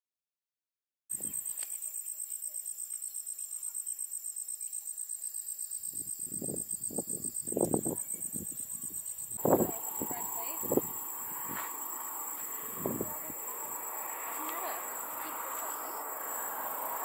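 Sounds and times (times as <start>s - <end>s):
insects trilling: 1.1s - 17.0s.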